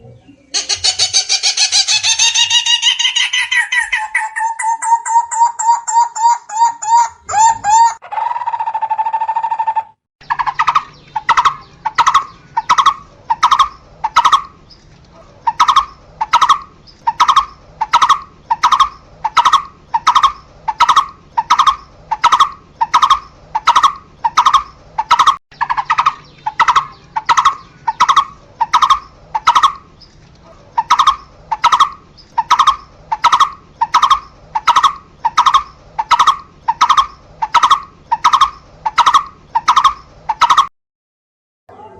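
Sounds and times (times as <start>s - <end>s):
drawn-out bird call: 0.5s - 40.7s.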